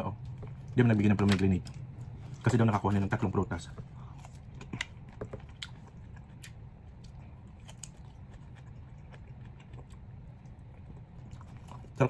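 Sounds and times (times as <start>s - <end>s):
steady low hum: 0.0s - 12.0s
chewing pineapple crunches: 0.2s - 12.0s.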